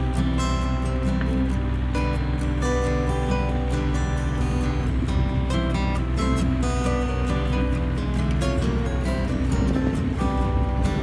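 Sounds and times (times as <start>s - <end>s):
low hum: 0.0s - 11.0s
plucked acoustic guitar music: 0.0s - 11.0s.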